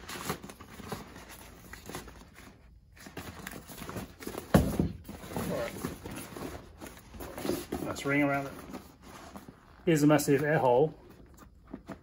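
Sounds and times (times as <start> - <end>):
vinyl inflatable rustling and crinkling: 0.0 - 12.0.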